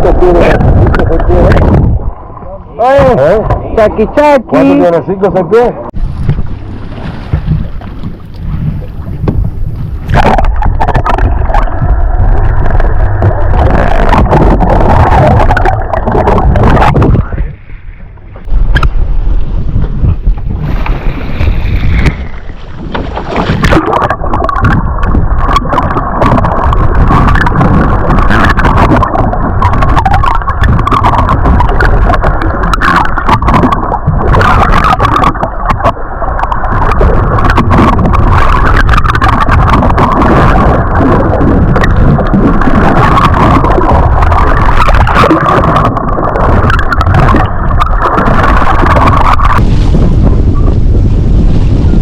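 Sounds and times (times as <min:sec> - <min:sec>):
boat engine rumble: 0:00.0 - 0:52.0
water noise: 0:00.0 - 0:52.0
wind on microphone: 0:00.0 - 0:52.0.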